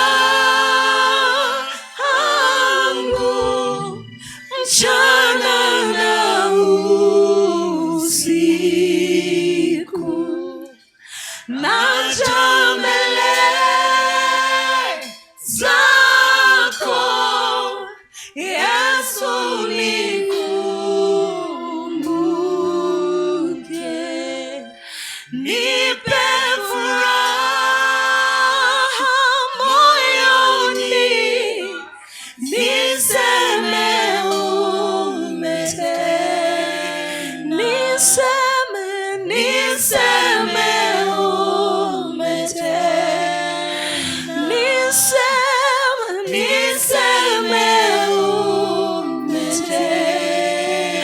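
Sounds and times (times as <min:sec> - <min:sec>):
group singing a cappella: 0:00.0 - 0:51.0.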